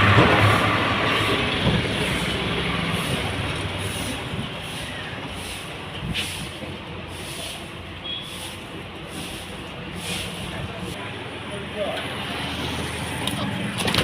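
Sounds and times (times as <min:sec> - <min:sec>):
passing vehicle rush: 0:00.0 - 0:14.0.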